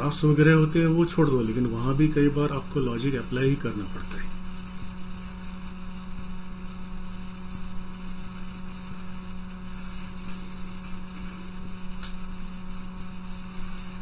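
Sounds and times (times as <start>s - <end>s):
electrical mains hum: 0.0s - 14.0s
microphone line hiss: 0.0s - 14.0s.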